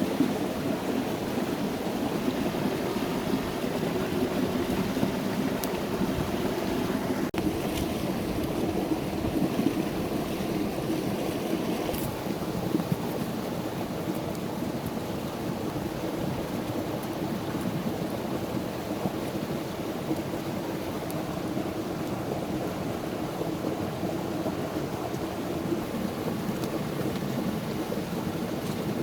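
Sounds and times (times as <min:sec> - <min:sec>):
campfire burning: 0:00.6 - 0:29.0.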